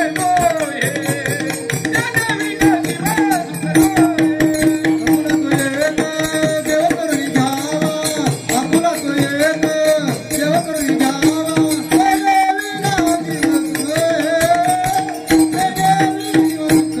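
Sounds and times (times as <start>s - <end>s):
hand drum: 0.0s - 17.0s
jingling percussion: 0.0s - 17.0s
person singing devotional melody: 0.0s - 17.0s.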